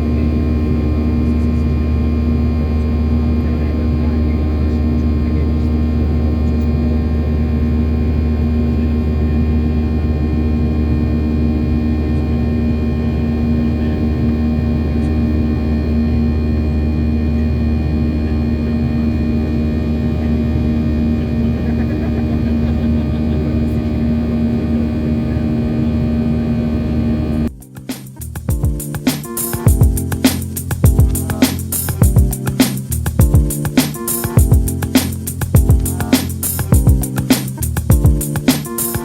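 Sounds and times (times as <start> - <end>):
jet engine drone in cabin: 0.0 - 39.0.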